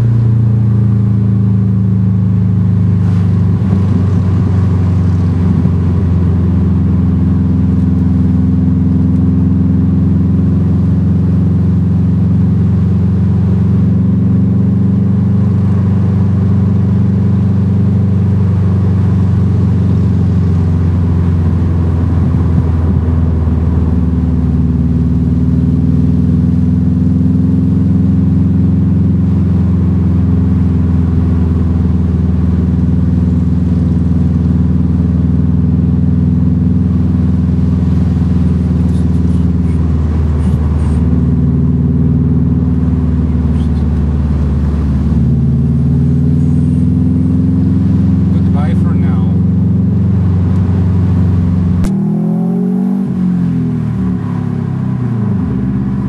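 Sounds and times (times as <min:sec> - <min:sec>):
car engine while driving: 0:00.0 - 0:56.0
road noise: 0:00.0 - 0:56.0.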